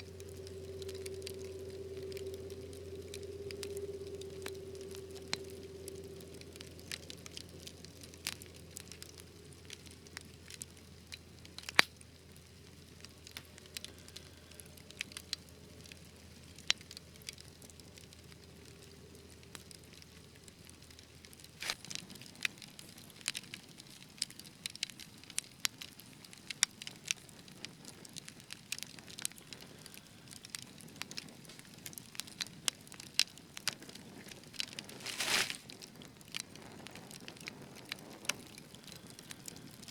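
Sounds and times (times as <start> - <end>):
soft fire hiss: 0.0 - 39.9
wood fire crackling: 0.0 - 39.9.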